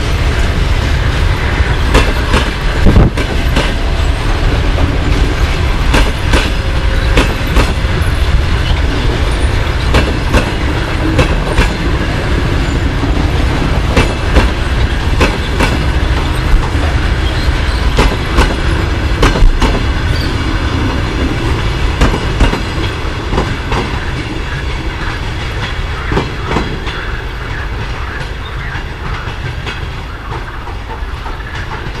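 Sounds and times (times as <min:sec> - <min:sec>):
train coaches rumbling past: 0:00.0 - 0:32.0.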